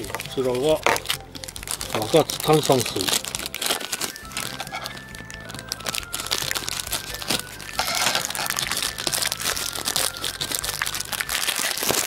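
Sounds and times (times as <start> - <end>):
plastic bag crinkling: 0.0 - 12.0
scissors cutting plastic: 0.0 - 12.0.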